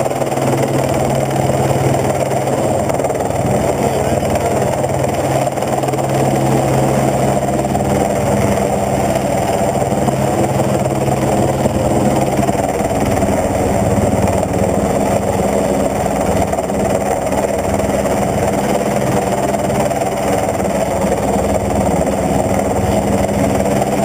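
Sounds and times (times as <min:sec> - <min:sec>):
helicopter engine and rotor drone: 0:00.0 - 0:24.0
low hum: 0:00.0 - 0:24.0.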